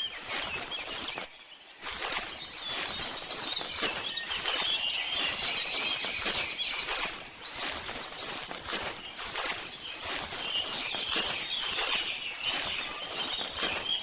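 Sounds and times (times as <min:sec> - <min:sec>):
birds chirping: 0:00.0 - 0:14.0
crackling rustle with clicks: 0:00.0 - 0:14.0.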